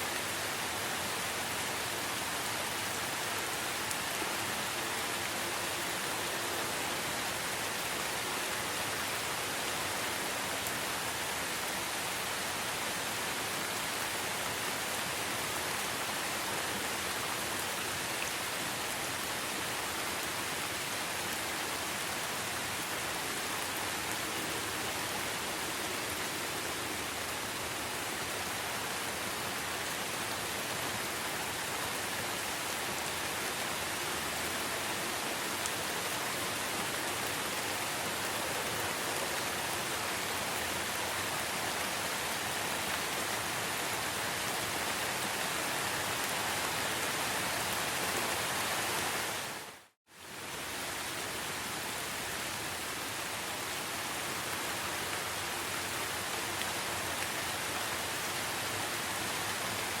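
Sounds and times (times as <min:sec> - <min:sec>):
heavy rain in a forest: 0:00.0 - 1:00.0.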